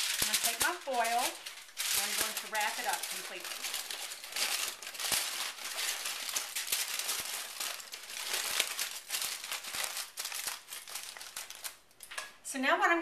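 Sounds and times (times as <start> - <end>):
aluminum foil crinkling: 0.0 - 12.4.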